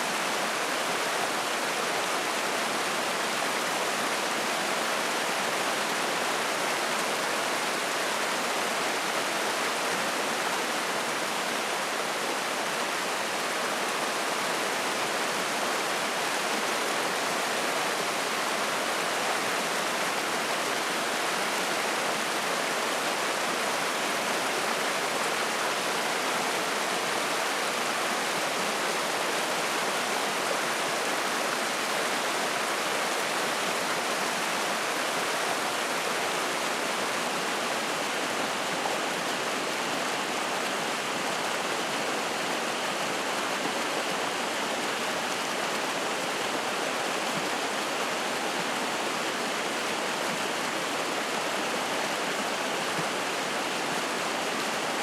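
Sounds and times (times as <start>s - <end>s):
stream flowing and splashing: 0.0s - 55.0s.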